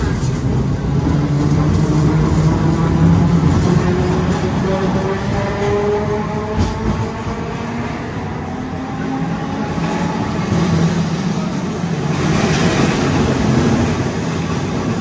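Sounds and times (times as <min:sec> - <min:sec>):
streetcar rumbling on rails: 0:00.0 - 0:15.0.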